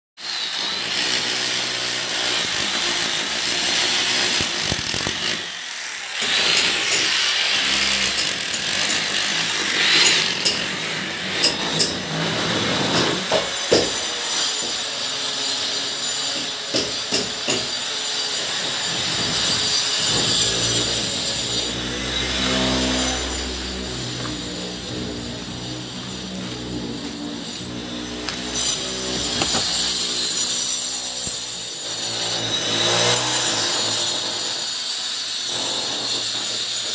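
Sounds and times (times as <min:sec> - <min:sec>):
power tool grinding brick: 0:00.2 - 0:36.9.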